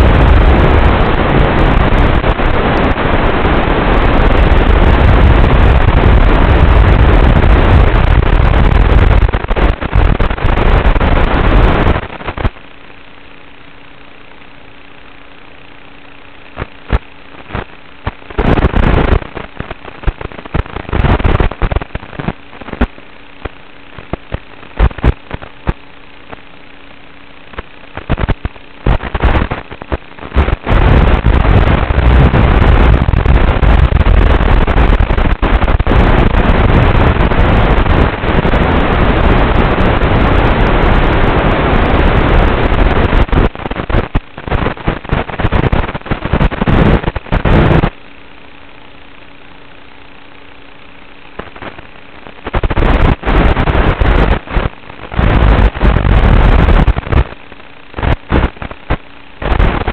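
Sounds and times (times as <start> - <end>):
crackling radio static: 0.0 - 59.9
faint steady hum: 0.0 - 59.9.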